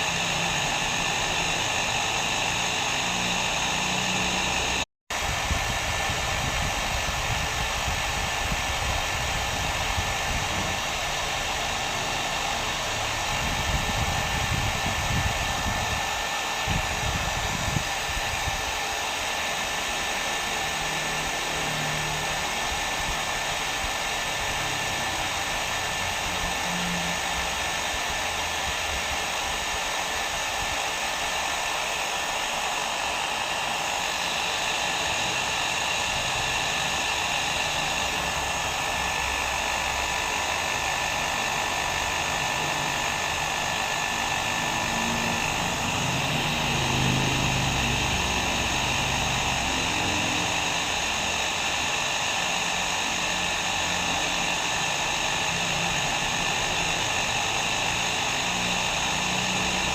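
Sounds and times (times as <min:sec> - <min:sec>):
hair dryer blowing: 0:00.0 - 0:59.9.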